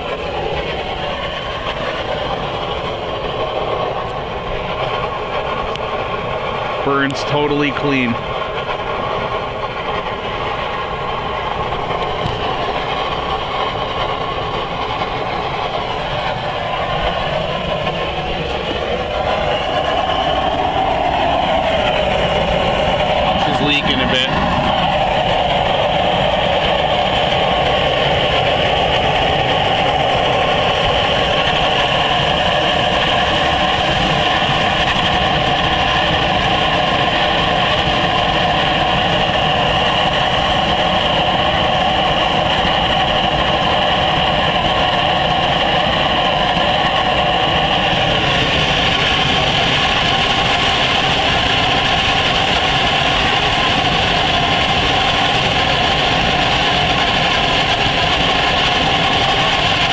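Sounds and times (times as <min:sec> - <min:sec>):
oil burner roaring and hissing: 0:00.0 - 0:59.9.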